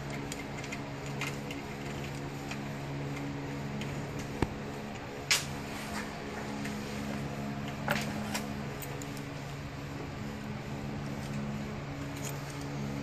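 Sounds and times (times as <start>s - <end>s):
steady low room hum: 0.0s - 13.0s.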